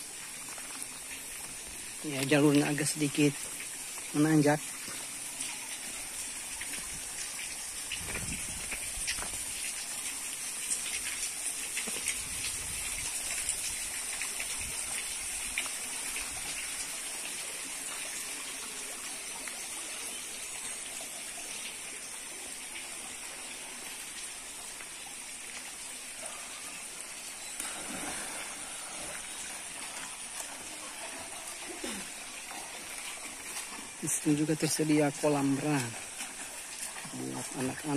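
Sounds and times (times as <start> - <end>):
water rushing through stone channels: 0.0 - 37.9.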